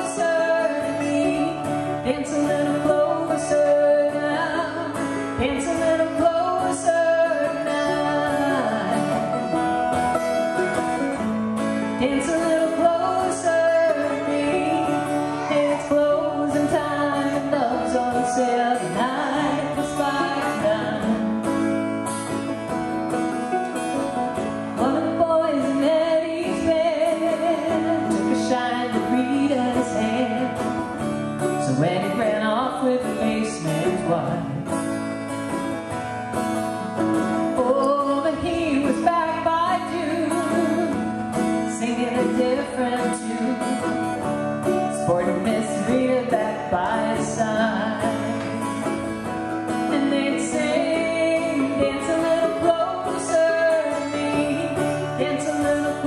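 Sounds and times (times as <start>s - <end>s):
woman singing: 0.0s - 35.8s, 36.9s - 56.0s
acoustic guitar: 0.0s - 56.0s
mandolin: 0.0s - 56.0s.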